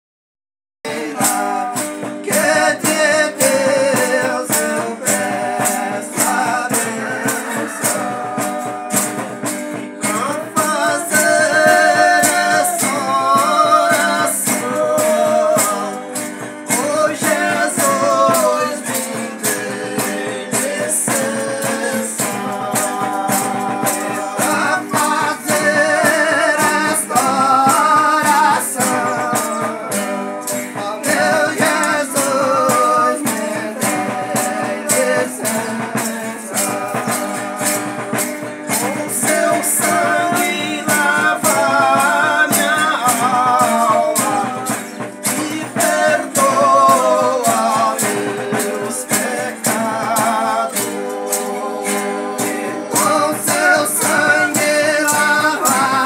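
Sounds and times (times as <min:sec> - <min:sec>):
group singing in harmony: 0:00.9 - 0:56.0
jingling tambourine: 0:00.9 - 0:56.0
strummed acoustic guitars: 0:00.9 - 0:56.0.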